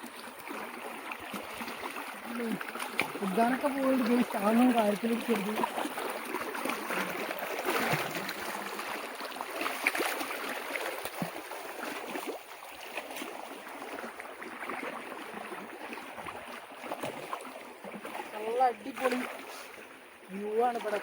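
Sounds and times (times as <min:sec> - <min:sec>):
small water splashes: 0:00.0 - 0:21.0
water sloshing and gurgling: 0:00.0 - 0:21.0.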